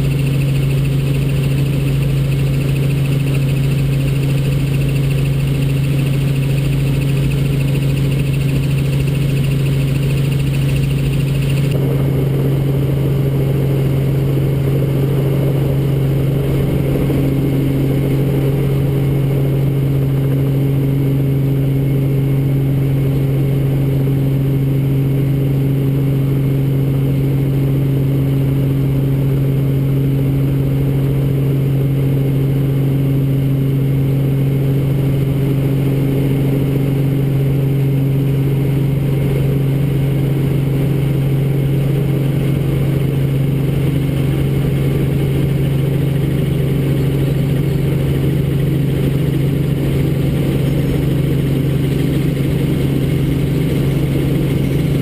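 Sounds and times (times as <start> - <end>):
helicopter engine and rotors: 0.0 - 55.0.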